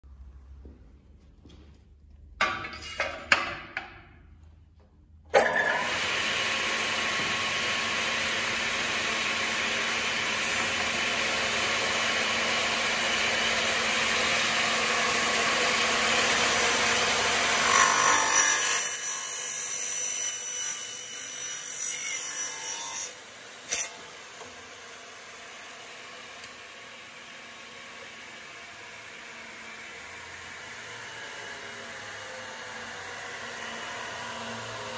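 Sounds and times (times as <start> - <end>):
mitre saw whining: 5.4 - 34.9
saw cutting through aluminium: 5.4 - 34.9.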